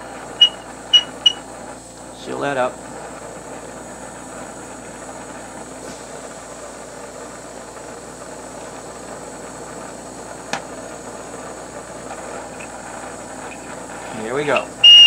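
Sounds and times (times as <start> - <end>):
torch flame hissing: 0.0 - 15.0.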